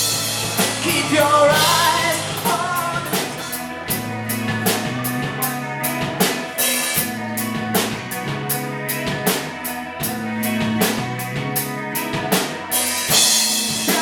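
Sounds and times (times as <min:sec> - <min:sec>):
drum kit beat: 0:00.0 - 0:14.0
live rock band playing: 0:00.0 - 0:14.0.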